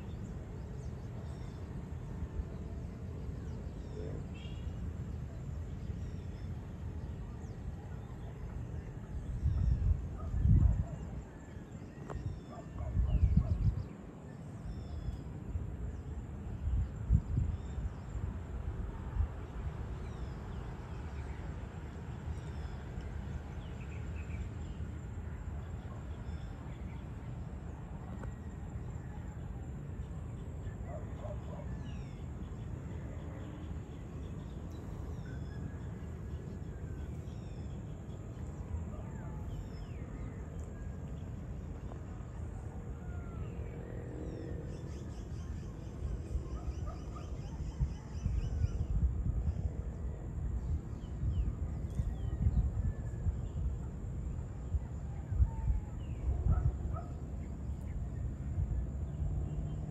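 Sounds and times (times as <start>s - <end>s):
faint high insect hum: 0.0s - 59.9s.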